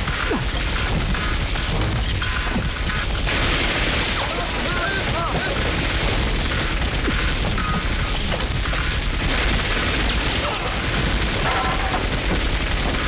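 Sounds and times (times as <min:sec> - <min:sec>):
rapid gunfire: 0:00.0 - 0:13.0.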